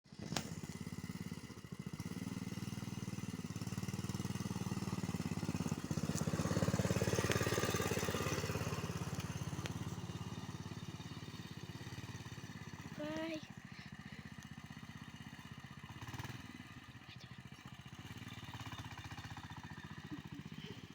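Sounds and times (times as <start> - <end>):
small vehicle engine running: 0.1 - 20.9.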